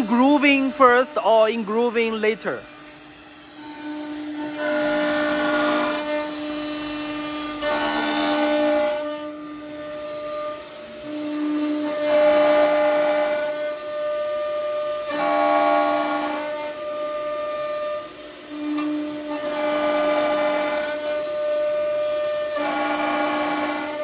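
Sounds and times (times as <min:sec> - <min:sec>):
drilling machine spindle whining: 0:00.0 - 0:24.0.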